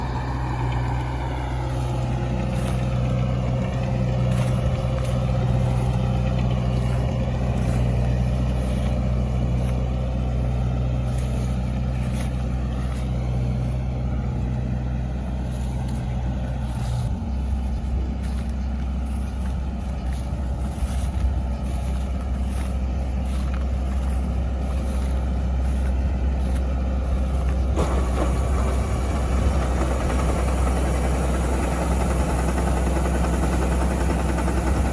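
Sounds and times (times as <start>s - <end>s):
large vehicle engine running: 0.0s - 34.9s.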